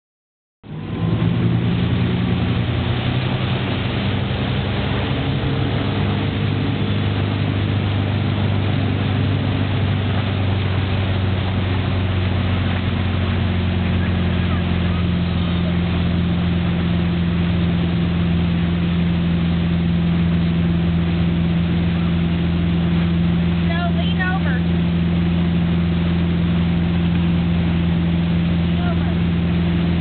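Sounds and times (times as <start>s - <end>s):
boat engine droning: 0.6s - 30.0s
churning wake water: 0.6s - 30.0s.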